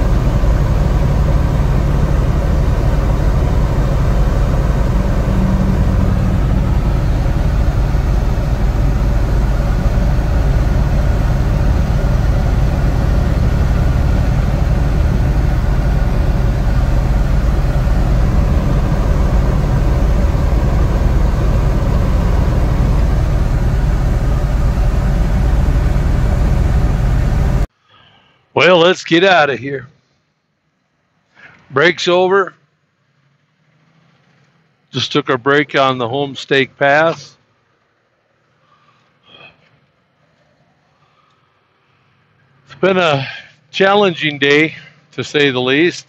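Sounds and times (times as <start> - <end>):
truck engine and road drone: 0.0 - 46.0.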